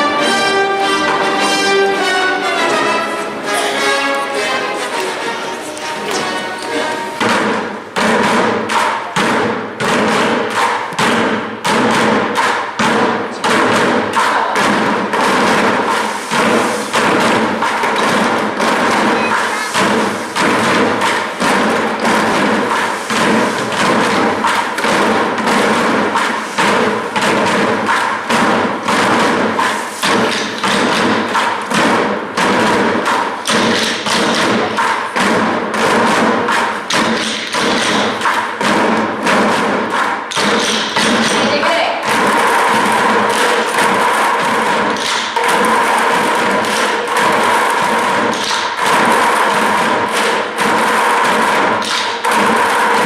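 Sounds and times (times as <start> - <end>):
rapid loud thumps and knocks: 7.2 - 53.0.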